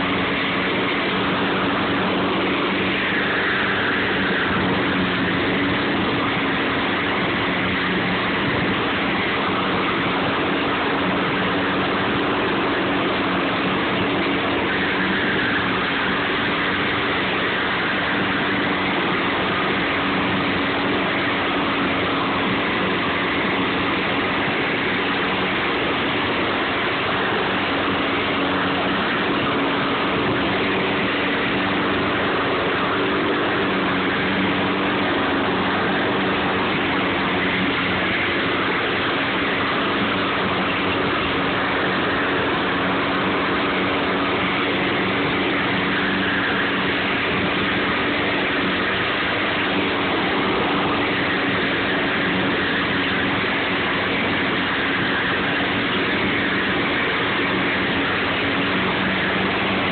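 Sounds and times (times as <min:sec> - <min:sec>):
lawn mower engine running: 0:00.0 - 0:59.9
rush of mower blade: 0:00.0 - 0:59.9.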